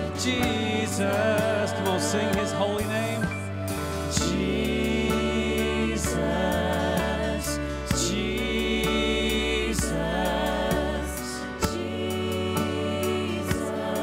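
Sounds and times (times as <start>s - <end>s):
singers sustaining voices: 0.0s - 14.0s
worship band playing: 0.0s - 14.0s.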